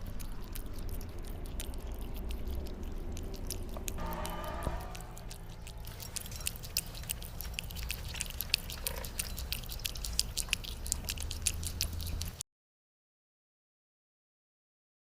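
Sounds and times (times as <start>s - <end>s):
cat chewing food: 0.0s - 12.4s
steady low rumble: 0.0s - 12.4s.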